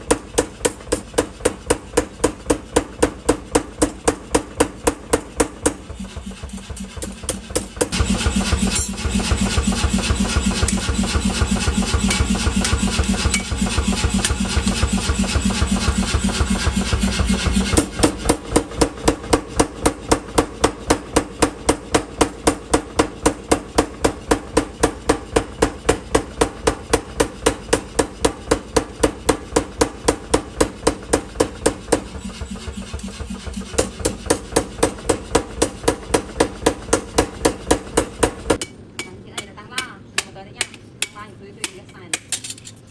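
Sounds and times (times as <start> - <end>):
loud machine hum: 0.0 - 38.6
hammer blows on steel: 0.0 - 41.8.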